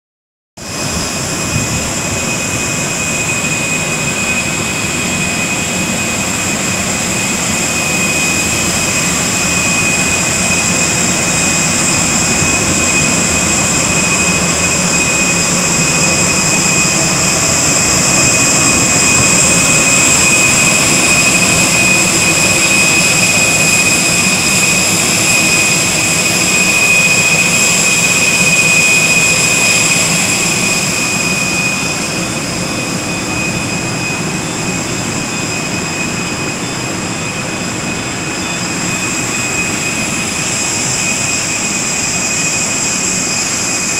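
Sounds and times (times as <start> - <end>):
auxiliary power unit turbine whine: 0.6 - 43.9.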